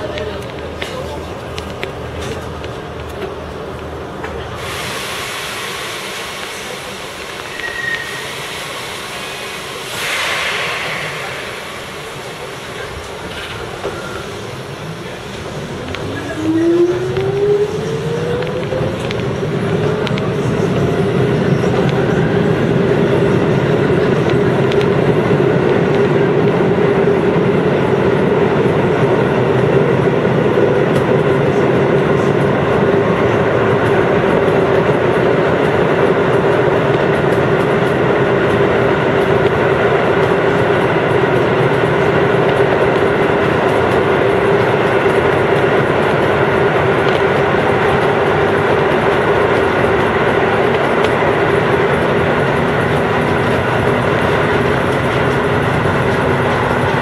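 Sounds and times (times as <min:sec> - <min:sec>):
wheel and rail noise: 0:00.0 - 0:57.0.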